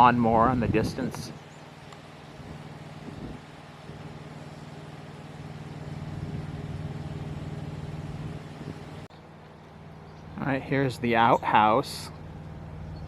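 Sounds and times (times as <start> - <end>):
distant lawnmower engine running: 0.0 - 13.0.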